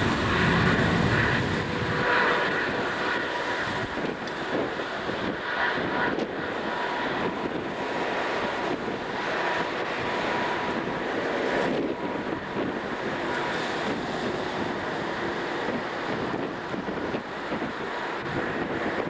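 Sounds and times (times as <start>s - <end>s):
ferry engines and wash drone: 0.0s - 19.0s
wind buffeting microphone: 0.0s - 19.0s.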